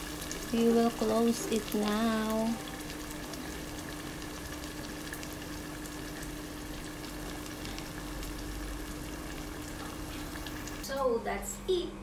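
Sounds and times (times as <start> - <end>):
sauce sizzling with pops: 0.0 - 10.9.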